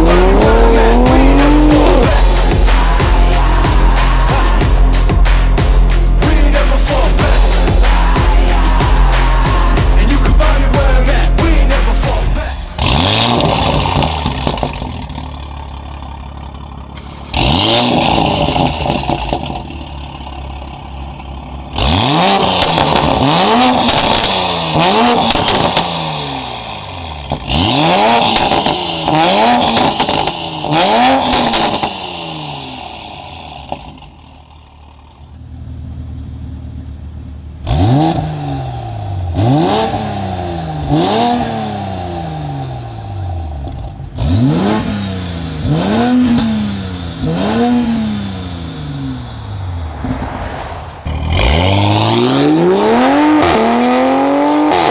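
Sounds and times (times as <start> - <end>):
car engine idling: 0.0 - 54.5
car engine revving: 0.0 - 54.9
exhaust crackling: 0.0 - 54.9.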